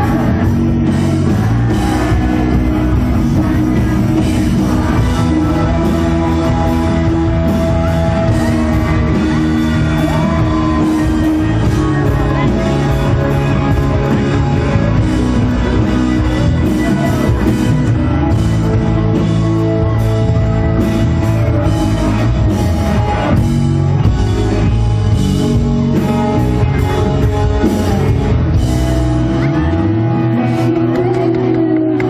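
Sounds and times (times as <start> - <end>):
bass guitar: 0.0 - 32.0
electric guitar: 0.0 - 32.0.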